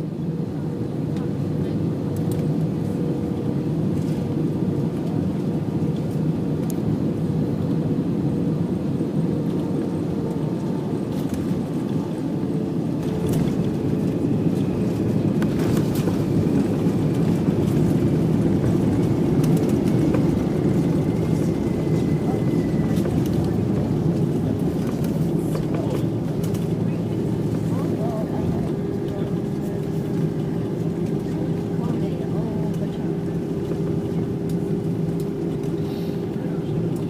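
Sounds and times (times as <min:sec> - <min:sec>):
jet engine cabin rumble: 0:00.0 - 0:37.0.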